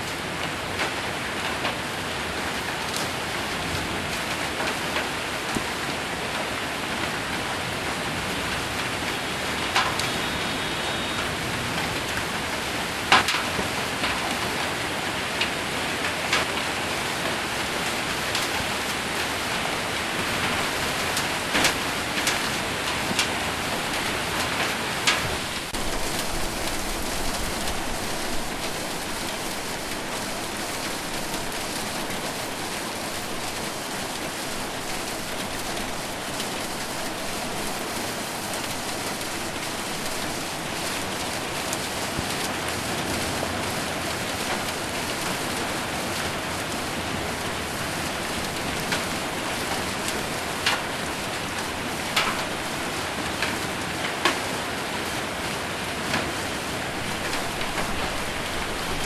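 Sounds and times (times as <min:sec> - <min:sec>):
heavy rain on a metal roof: 0:00.0 - 0:59.0
hailstones hitting metal: 0:00.2 - 0:59.0.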